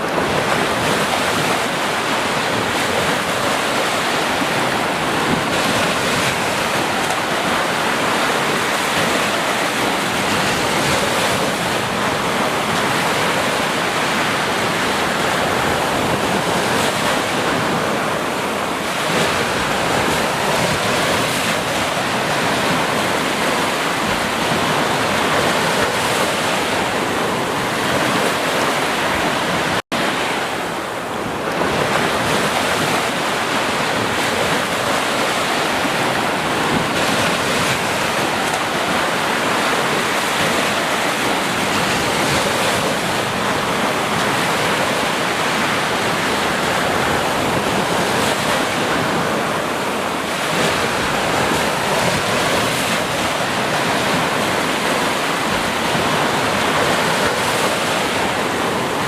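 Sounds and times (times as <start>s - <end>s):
ocean surf washing onto beach: 0.0s - 59.0s.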